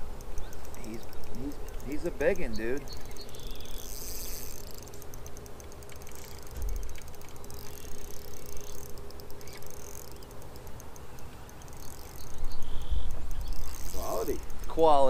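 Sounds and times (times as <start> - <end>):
faint steady hum: 0.0 - 15.0
fishing reel ticking: 0.0 - 15.0.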